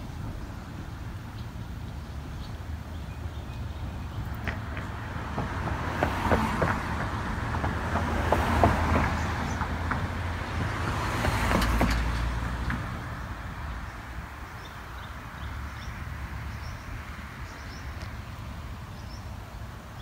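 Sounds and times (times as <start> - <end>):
low traffic rumble: 0.0 - 20.0
vehicles passing: 0.0 - 20.0.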